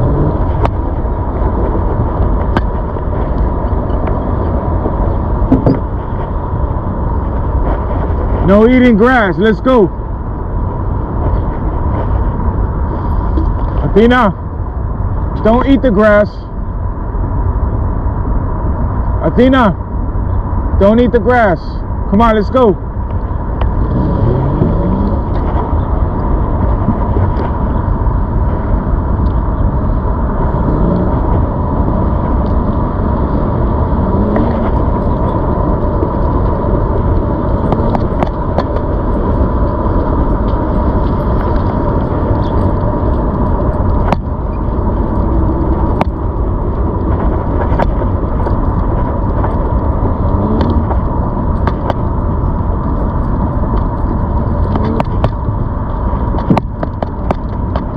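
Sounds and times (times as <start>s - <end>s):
wind and road rumble: 0.0s - 57.9s.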